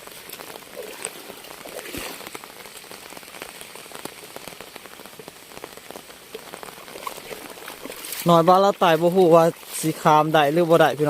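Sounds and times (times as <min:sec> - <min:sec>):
rain drops striking surface: 0:00.0 - 0:11.0
steady rain hiss: 0:00.0 - 0:11.0.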